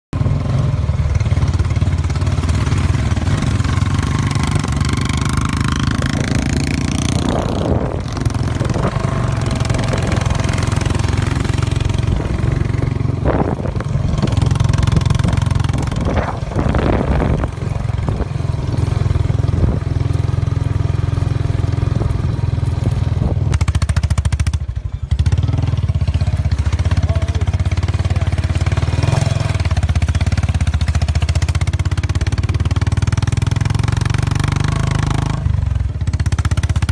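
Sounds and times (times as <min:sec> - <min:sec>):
motorcycle engine running: 0:00.2 - 0:36.9.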